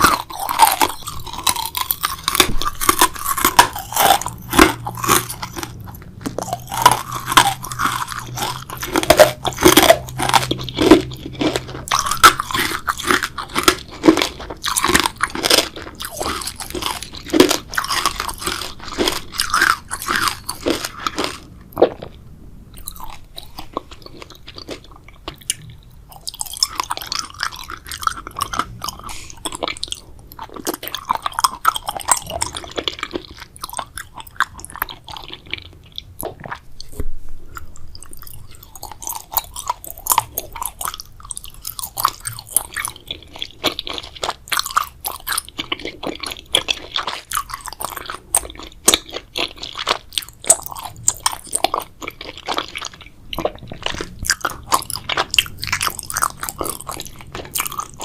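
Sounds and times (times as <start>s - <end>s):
crunchy biting: 0.0s - 22.2s, 22.8s - 37.0s, 37.6s - 58.0s
wet chewing: 0.0s - 22.2s, 22.8s - 58.0s.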